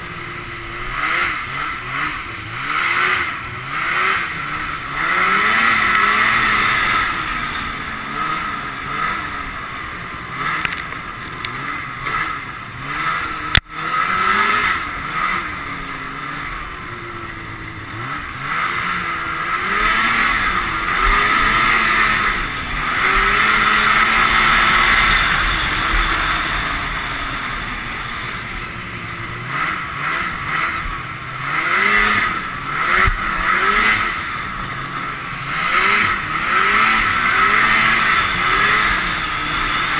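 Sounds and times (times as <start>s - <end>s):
snowmobile engine revving: 0.0s - 39.9s
wind and track noise: 0.0s - 39.9s.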